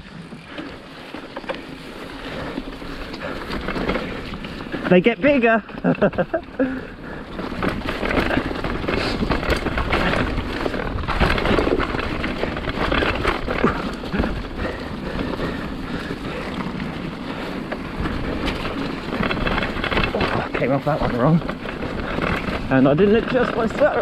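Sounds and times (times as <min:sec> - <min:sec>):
tyres on dirt: 0:00.0 - 0:24.0
bike knocks and rattles: 0:00.4 - 0:24.0.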